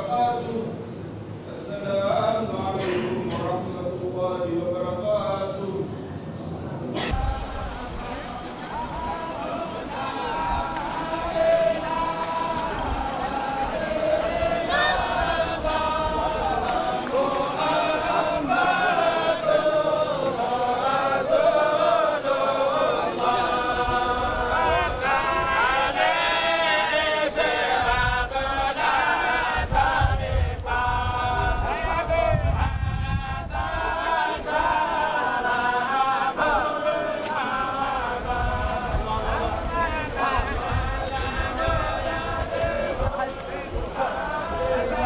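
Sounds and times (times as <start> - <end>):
crowd of men chanting: 7.0 - 45.0.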